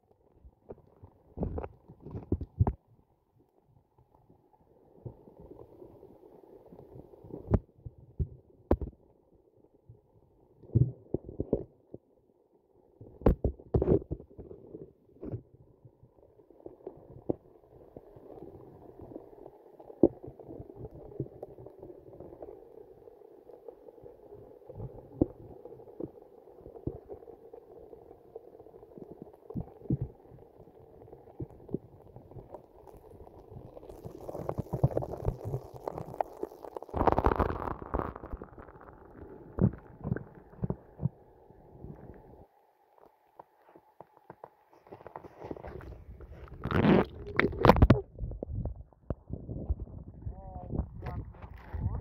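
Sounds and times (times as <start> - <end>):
underwater rumble of moving water: 0.0 - 52.0.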